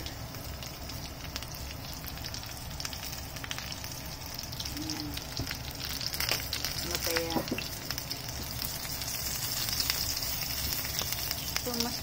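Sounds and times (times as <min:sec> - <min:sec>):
meat and garlic sizzling in oil: 0:00.0 - 0:12.0.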